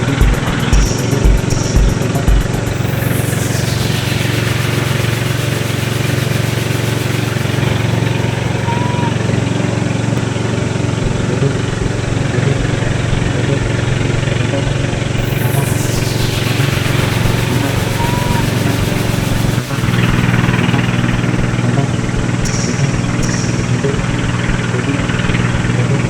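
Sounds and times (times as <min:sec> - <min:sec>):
engine droning: 0:00.0 - 0:26.0.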